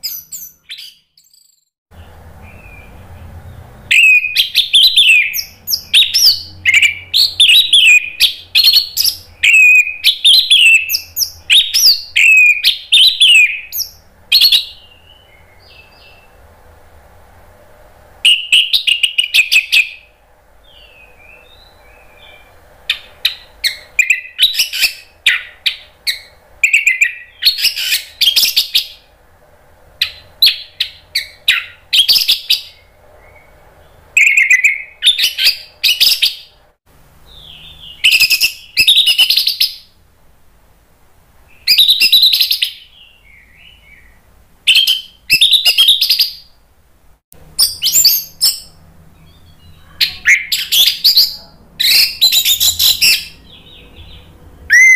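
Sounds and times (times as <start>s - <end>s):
faint steady hum: 1.9s - 54.9s.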